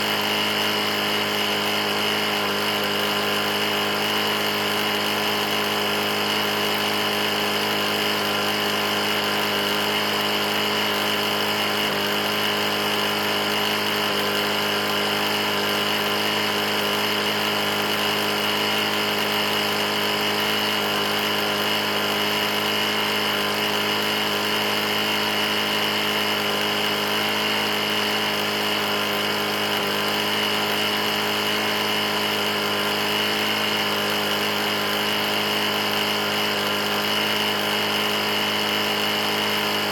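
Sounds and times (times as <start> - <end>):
lawn mower engine knocking: 0.0 - 39.9.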